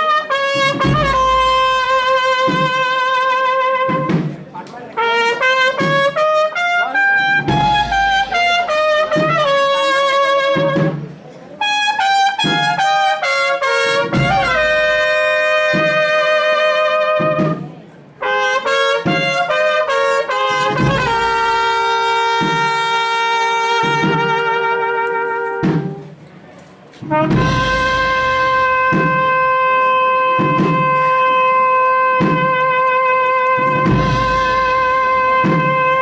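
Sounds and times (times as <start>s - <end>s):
regular drum beat: 0.0s - 11.3s, 12.0s - 26.2s, 27.0s - 36.0s
trumpets and trombones melody: 0.0s - 26.2s, 27.0s - 36.0s.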